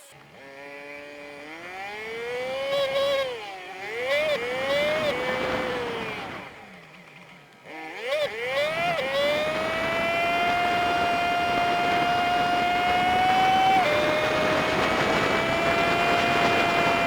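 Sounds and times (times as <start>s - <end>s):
motorcycle engine high whine: 0.0s - 17.0s
wind and road noise: 0.0s - 17.0s.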